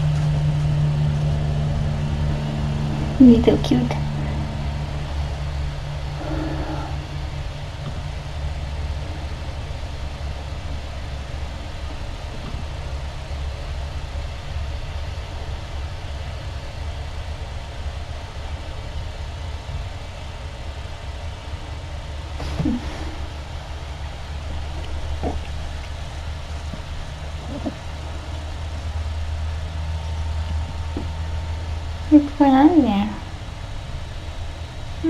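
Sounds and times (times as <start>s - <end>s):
steady machine hum and hiss: 0.0s - 35.0s.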